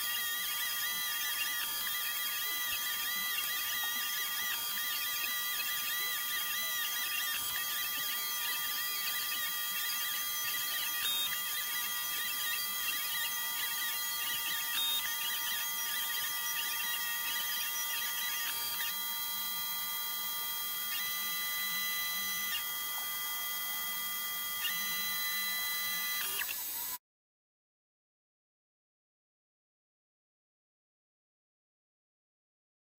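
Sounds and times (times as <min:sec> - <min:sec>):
stepper motors whining: 0:00.0 - 0:27.0.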